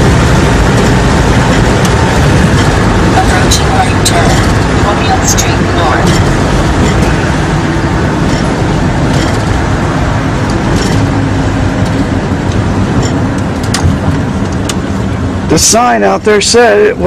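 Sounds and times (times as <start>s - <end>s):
car engine hum: 0.0s - 17.0s
tyre road noise: 0.0s - 17.0s.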